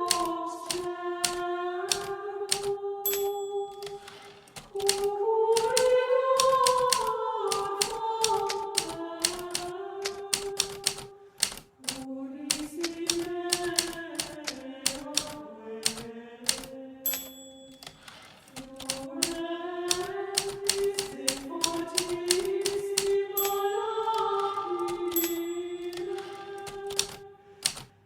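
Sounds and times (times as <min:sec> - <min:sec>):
typewriter bell ring: 0:00.0 - 0:28.0
typewriter keys striking: 0:00.0 - 0:28.0.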